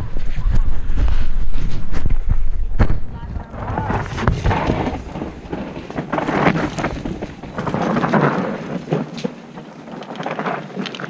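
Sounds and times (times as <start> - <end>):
bike tyres crunching over rocky trail: 0.1 - 11.0.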